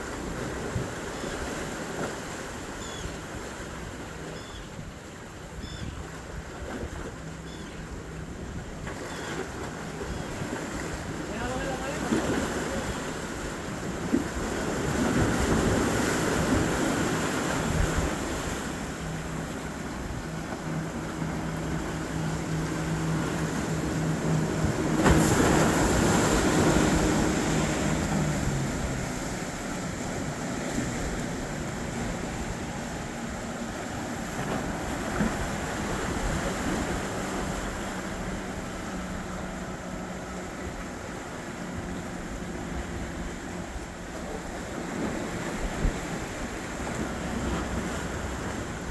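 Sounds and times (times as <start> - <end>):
boat engine drone: 0.0 - 48.9
surf: 0.0 - 48.9
wind: 0.0 - 48.9.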